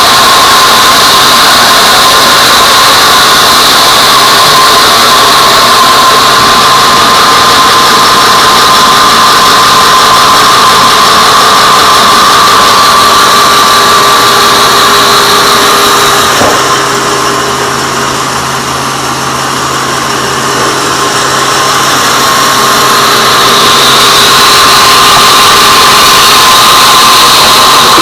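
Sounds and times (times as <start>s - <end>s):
bandsaw whining: 0.0s - 28.0s.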